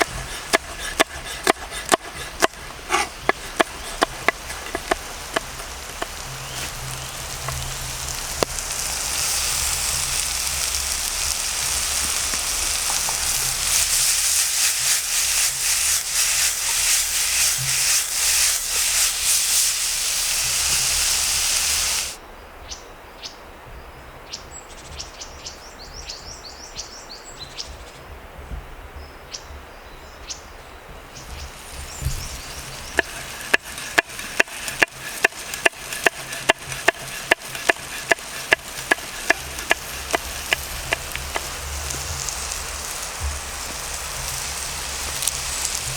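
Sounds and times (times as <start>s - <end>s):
food sizzling in hot oil: 0.0s - 22.2s, 31.2s - 45.9s.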